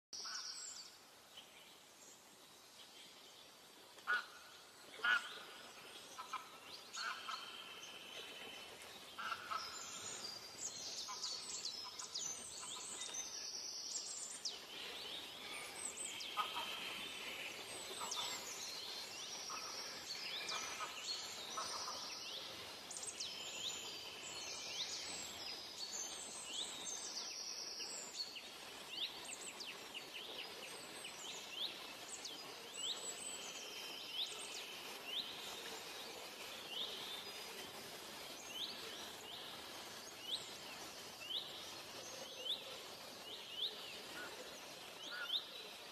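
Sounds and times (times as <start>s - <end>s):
forest birds chirping: 0.1s - 45.9s.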